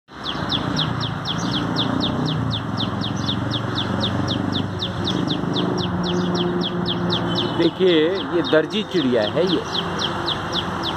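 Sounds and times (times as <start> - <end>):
bird singing high notes: 0.2 - 10.9.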